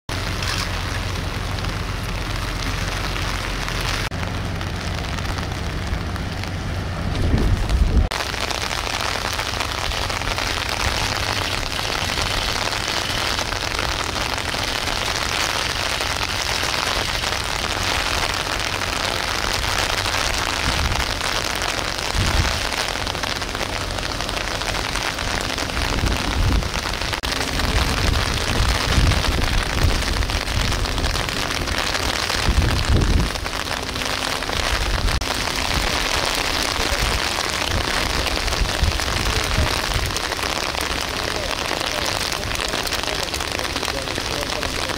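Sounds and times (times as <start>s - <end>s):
steady rain hiss: 0.1s - 44.9s
wind buffeting microphone: 4.8s - 41.8s.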